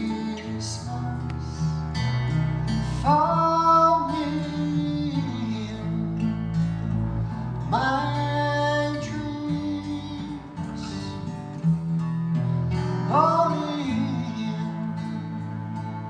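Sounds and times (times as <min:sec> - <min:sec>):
man singing: 0:00.0 - 0:02.0, 0:02.7 - 0:06.7, 0:07.6 - 0:11.4, 0:12.8 - 0:16.0
strummed acoustic guitars: 0:00.0 - 0:16.0.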